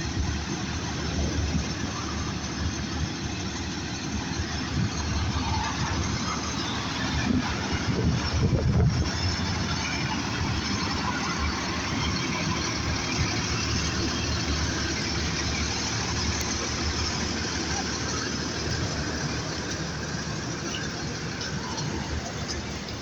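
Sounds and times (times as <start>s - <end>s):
rushing noise: 0.0s - 23.0s
vehicle engine running: 0.0s - 23.0s.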